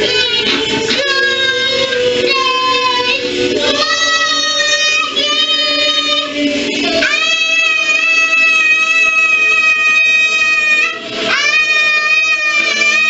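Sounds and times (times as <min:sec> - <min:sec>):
girl singing into a microphone: 0:00.0 - 0:13.0.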